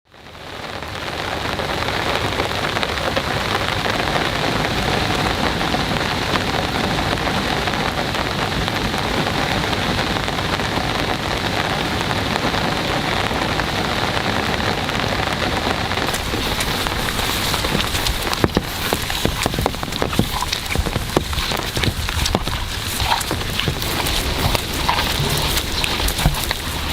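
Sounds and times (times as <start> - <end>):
heavy rain hiss: 0.2 - 26.9
crackling taps and drips: 1.6 - 26.9.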